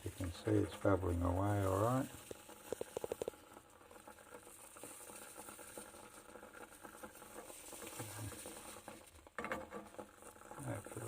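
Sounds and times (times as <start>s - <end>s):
water boiling and spitting: 0.0s - 11.0s.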